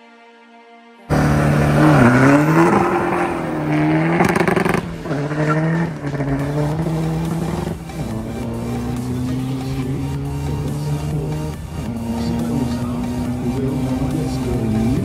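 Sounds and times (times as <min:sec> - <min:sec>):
diesel engine at full throttle: 0:01.1 - 0:15.0.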